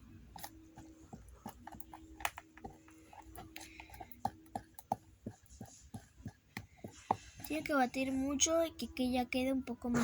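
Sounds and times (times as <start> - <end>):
spoon stirring sticky mixture: 0.0 - 9.9.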